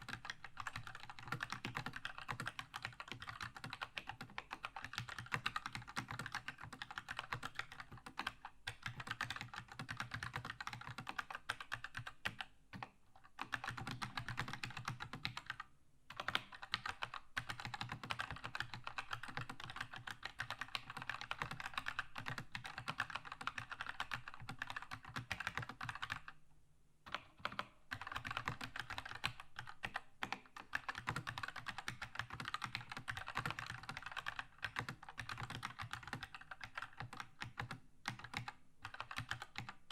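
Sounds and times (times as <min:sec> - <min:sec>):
typing on a mechanical keyboard: 0:00.0 - 0:26.4, 0:27.1 - 0:39.9.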